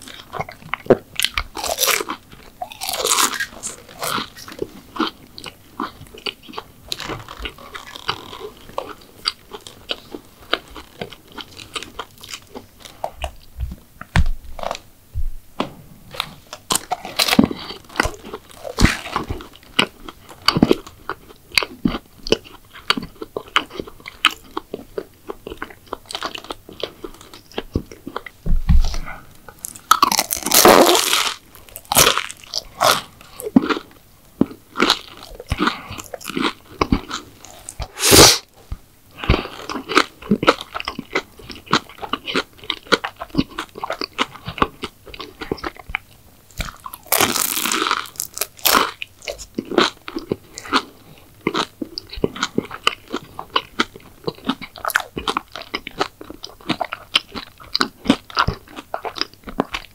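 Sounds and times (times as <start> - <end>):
crunchy bites: 0.0 - 13.4, 16.1 - 38.5, 39.2 - 59.9
crackly chewing: 0.0 - 14.9, 16.1 - 59.9.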